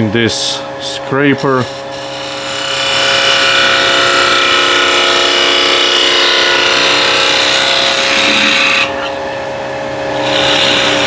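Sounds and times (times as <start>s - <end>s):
lathe motor hum: 0.6s - 11.0s.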